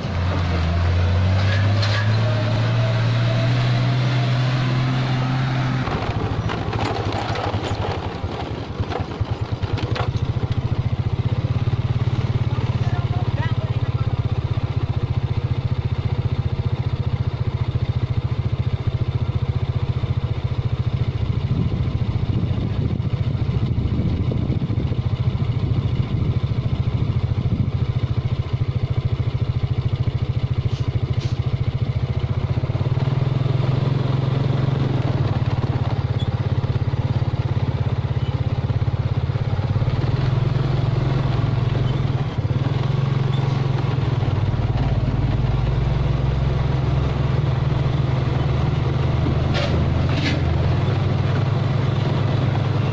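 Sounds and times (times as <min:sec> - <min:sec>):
truck diesel engine running: 0:00.0 - 0:52.9.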